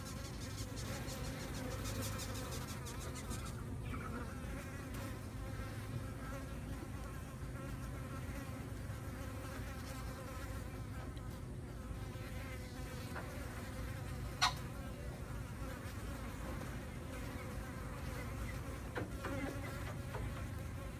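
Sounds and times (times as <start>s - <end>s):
insects buzzing: 0.0s - 20.9s.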